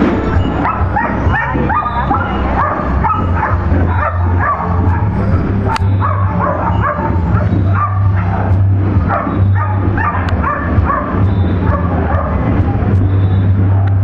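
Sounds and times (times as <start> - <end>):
steady low hum: 0.0 - 14.0
dog barking in high yelps: 0.4 - 12.4.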